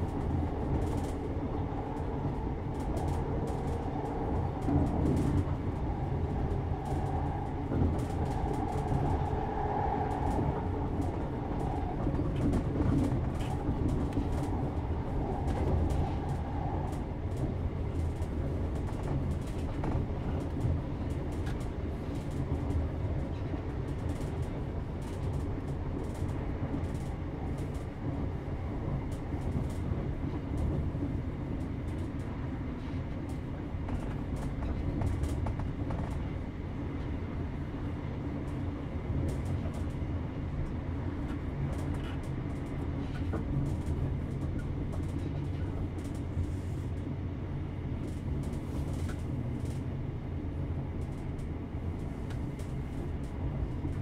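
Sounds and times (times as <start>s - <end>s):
train running gear rumble: 0.0s - 54.0s.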